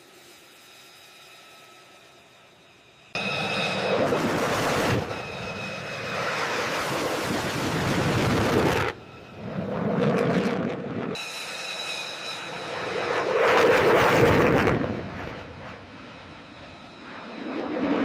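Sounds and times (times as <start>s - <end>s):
jet engine rushing and whine: 0.0s - 18.0s.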